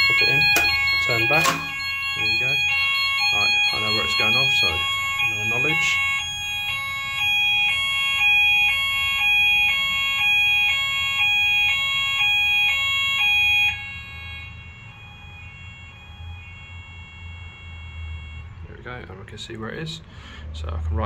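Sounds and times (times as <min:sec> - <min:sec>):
two-tone fire alarm: 0:00.0 - 0:20.2.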